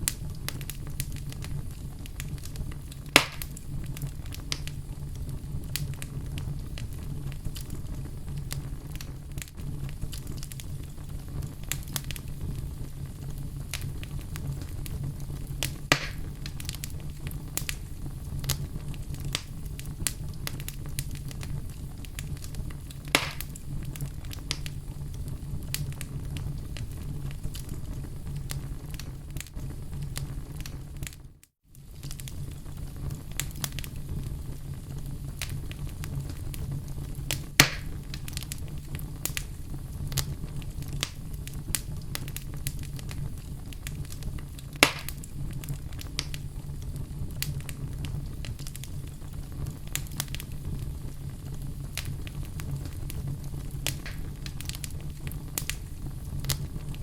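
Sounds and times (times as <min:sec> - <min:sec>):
low steady rumble: 0:00.0 - 0:31.0, 0:31.9 - 0:57.0
wood fire crackling and popping: 0:00.0 - 0:57.0.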